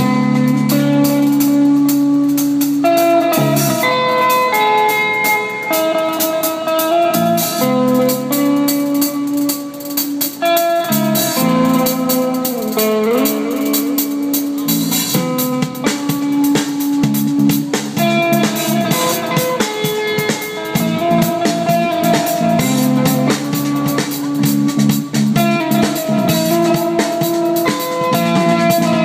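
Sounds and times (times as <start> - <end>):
drum kit cymbal beat: 0.0 - 29.0
electric guitar ringing notes: 0.0 - 29.0.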